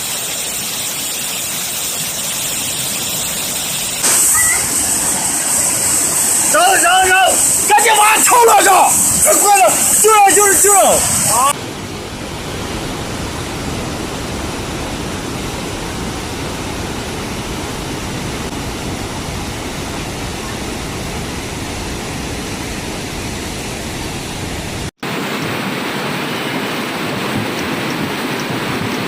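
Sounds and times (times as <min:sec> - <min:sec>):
roar of rain and wind: 0:04.0 - 0:29.0.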